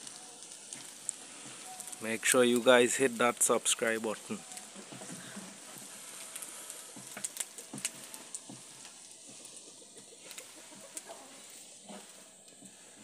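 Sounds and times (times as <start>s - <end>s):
pops and crackles: 0.0s - 12.8s
fish sizzling over wood fire: 0.0s - 13.0s.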